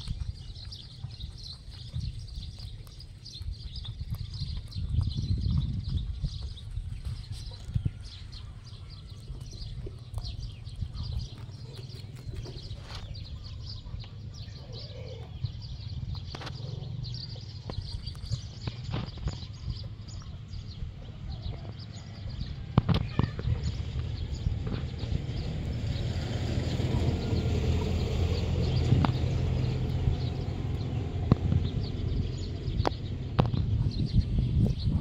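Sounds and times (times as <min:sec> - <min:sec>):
low background rumble: 0:00.0 - 0:35.0
rabbits chewing crisp crunches: 0:00.0 - 0:35.0.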